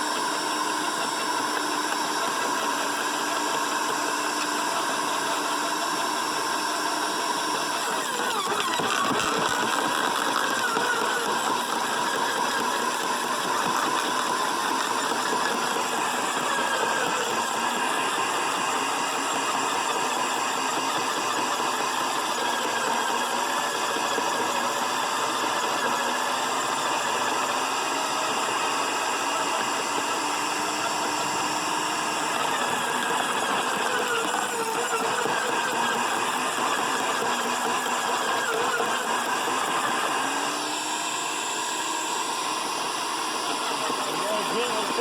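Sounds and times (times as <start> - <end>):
electric wood chipper running: 0.0 - 45.0.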